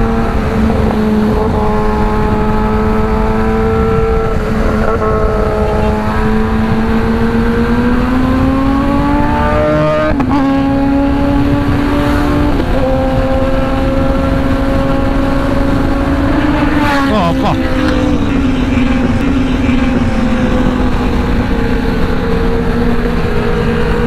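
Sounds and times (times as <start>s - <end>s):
motorbike engine at high revs: 0.0s - 24.0s.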